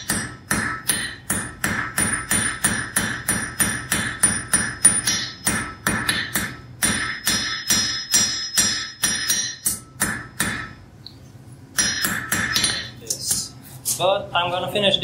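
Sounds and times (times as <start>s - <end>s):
hammer striking hot iron on anvil: 0.0s - 10.8s, 11.7s - 13.5s.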